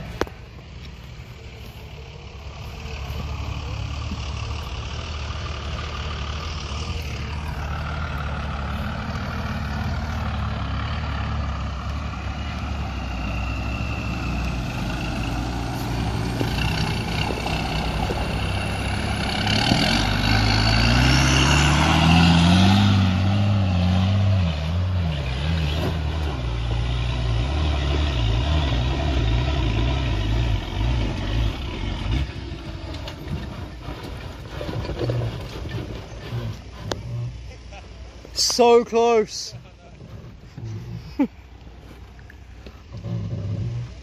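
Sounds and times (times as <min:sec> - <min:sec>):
diesel engine labouring uphill: 0:00.0 - 0:44.0.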